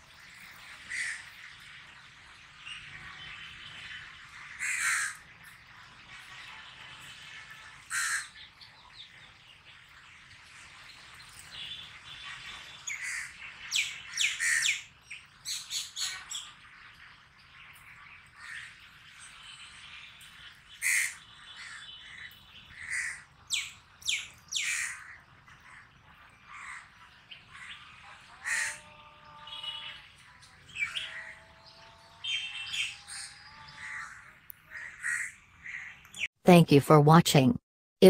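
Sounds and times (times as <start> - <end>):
birds chirping and squawking: 0.2 - 36.3.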